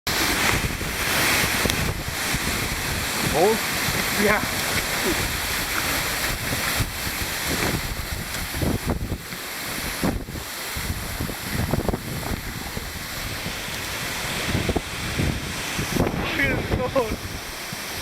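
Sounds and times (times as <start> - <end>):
waterfall pouring into pool: 0.1 - 18.0
wind buffeting microphone: 0.1 - 18.0.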